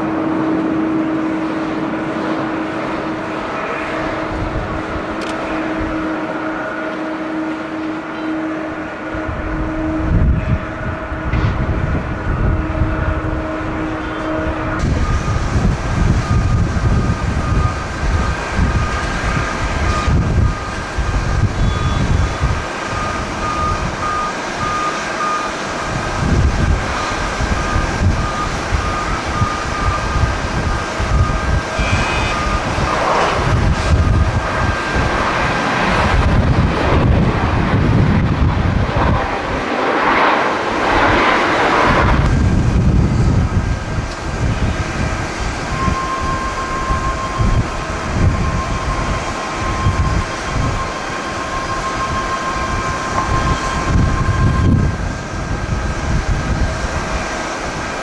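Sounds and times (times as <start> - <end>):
jet engines roaring: 0.0 - 58.0
thin engine whine: 0.0 - 58.0
wind buffeting microphone: 0.0 - 58.0.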